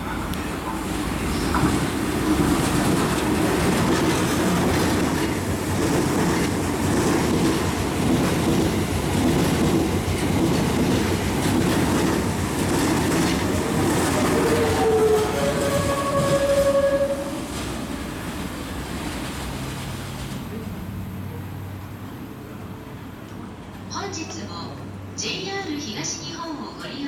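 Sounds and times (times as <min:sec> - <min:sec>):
train wheels on rails passing: 0:00.0 - 0:27.0.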